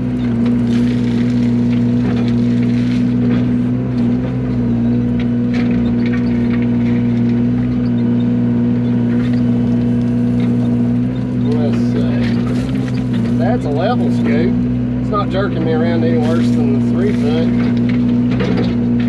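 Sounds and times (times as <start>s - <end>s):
diesel excavator engine running: 0.0s - 19.0s.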